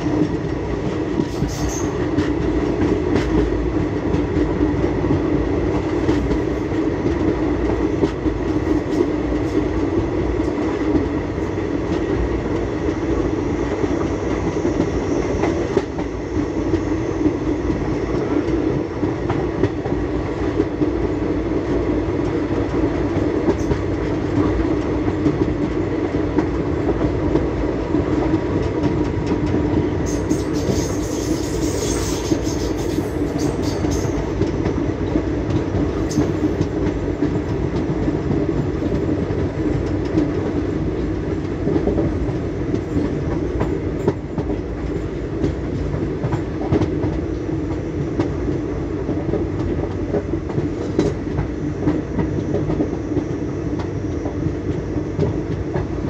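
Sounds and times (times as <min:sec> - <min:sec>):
faint clicks of train wheels: 0:00.0 - 0:56.0
train wheels rumbling on rails: 0:00.0 - 0:56.0.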